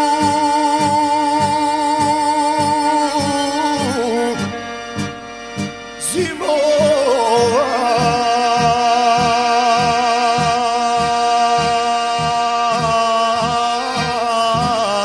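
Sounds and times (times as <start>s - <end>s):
band accompaniment with low beat: 0.0s - 15.0s
man singing with vibrato: 0.0s - 15.0s.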